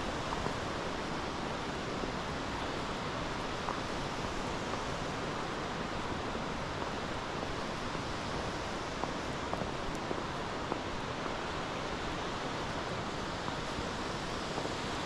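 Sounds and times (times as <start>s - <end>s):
waterfall and river rushing: 0.0s - 15.0s.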